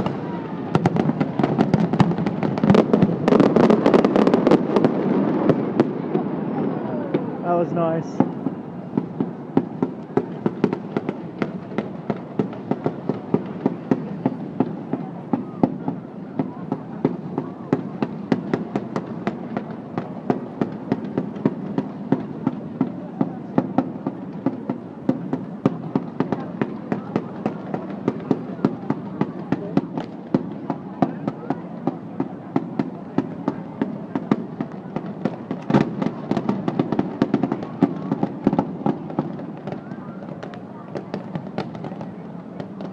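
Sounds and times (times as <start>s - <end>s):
firework bangs and crackles: 0.0s - 42.9s.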